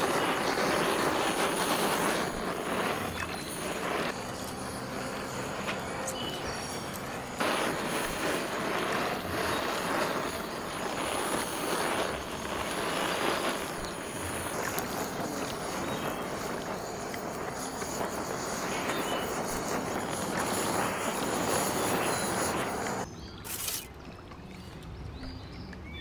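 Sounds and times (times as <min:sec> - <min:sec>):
blowtorch hissing: 0:00.0 - 0:23.9.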